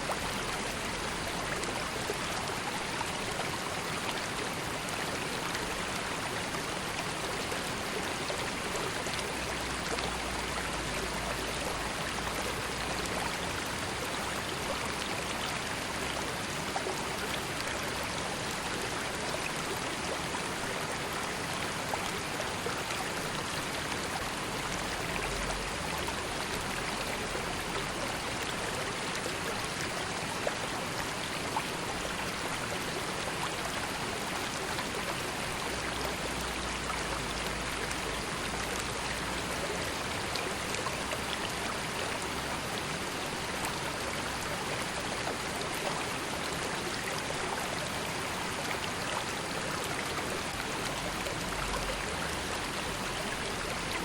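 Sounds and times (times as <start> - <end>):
river water babbling over stones: 0.0 - 54.0
water splashes and trickles: 0.0 - 54.0.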